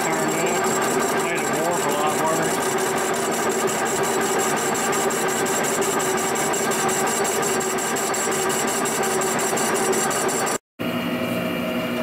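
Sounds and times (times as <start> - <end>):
fast ticking of cutter: 0.0 - 10.6
milling machine hum: 0.0 - 12.0.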